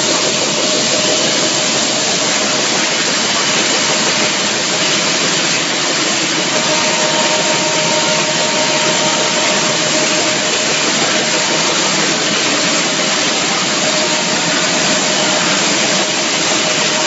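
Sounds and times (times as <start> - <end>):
production line machinery running: 0.0 - 17.0
thin constant whine: 0.0 - 17.0.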